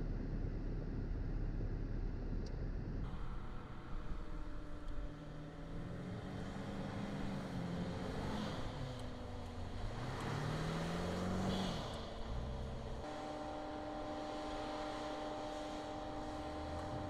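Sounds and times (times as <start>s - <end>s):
car engine revving: 3.1s - 17.0s.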